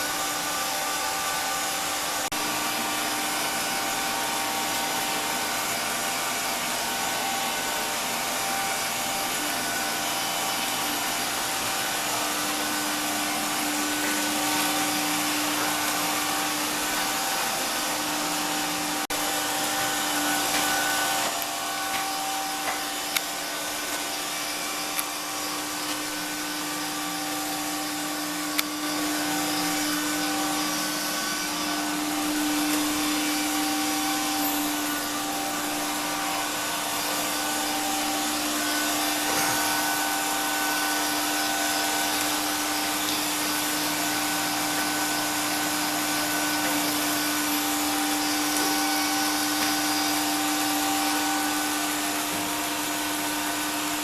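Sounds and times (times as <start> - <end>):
robot vacuum cleaner whirring: 0.0 - 54.0.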